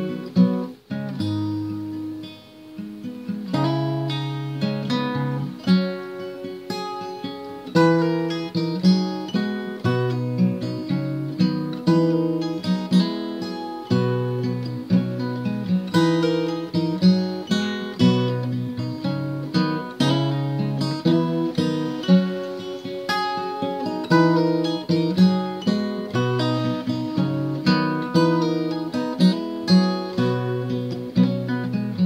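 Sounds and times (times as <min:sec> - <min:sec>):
acoustic guitar playing: 0:00.0 - 0:32.0.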